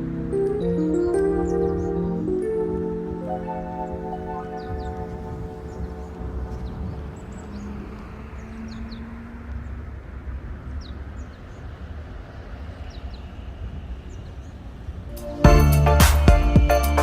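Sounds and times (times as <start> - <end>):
small birds chirping: 0.1 - 15.1.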